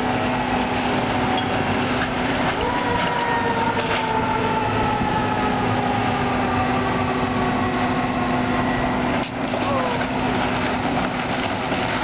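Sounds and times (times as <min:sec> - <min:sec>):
excavator diesel drone with whine: 0:00.0 - 0:12.0.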